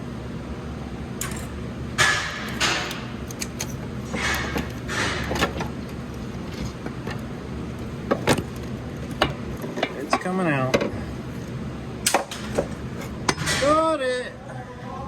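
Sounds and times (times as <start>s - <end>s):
metal parts scraping and clattering: 1.2s - 13.8s.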